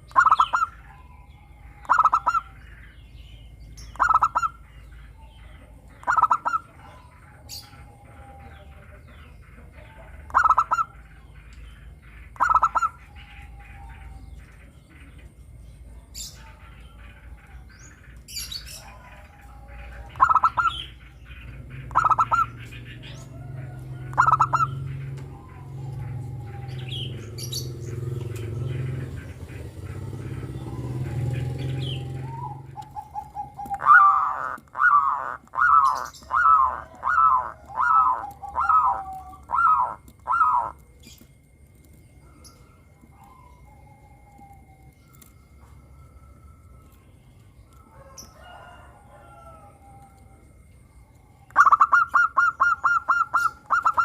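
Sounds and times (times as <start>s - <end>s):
doves cooing: 0.0s - 54.0s
small birds chirping: 0.0s - 54.0s.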